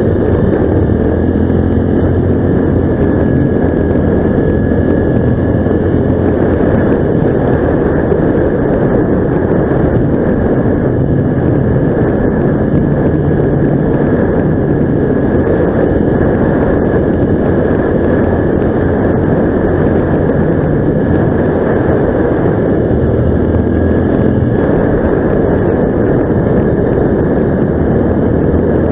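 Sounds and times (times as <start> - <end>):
rough travel noise: 0.0 - 28.9
vehicle engine driving: 0.0 - 28.9.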